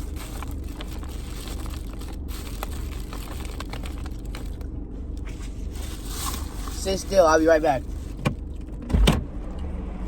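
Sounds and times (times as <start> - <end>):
light clicks and crinkles: 0.0 - 8.8
car engine hum: 0.0 - 10.0.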